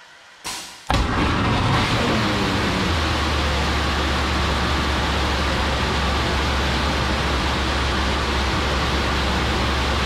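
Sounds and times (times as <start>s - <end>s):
rocket engine roaring: 0.9s - 10.0s.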